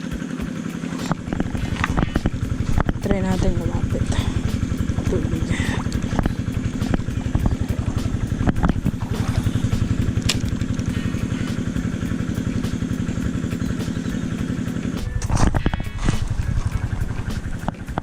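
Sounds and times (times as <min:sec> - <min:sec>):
water pump engine putter: 0:00.5 - 0:18.0.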